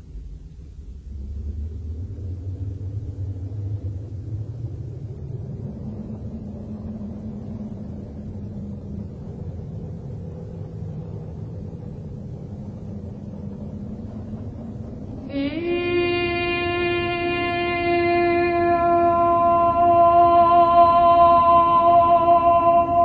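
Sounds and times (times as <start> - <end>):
low droning rumble: 0.0 - 23.0.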